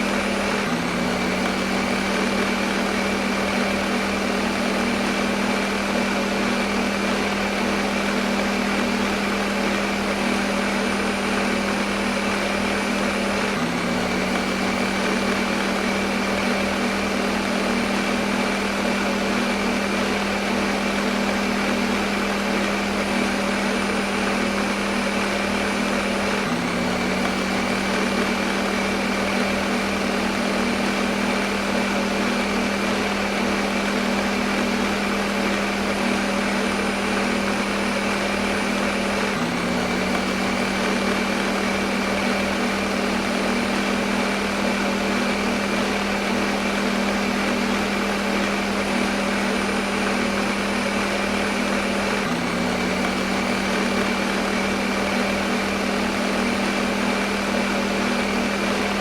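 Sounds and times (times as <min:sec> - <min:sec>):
blender motor running: 0:00.0 - 0:59.0.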